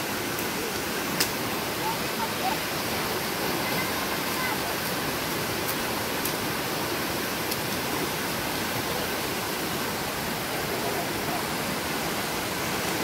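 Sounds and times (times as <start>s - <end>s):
stream rushing over rapids: 0.0s - 13.0s.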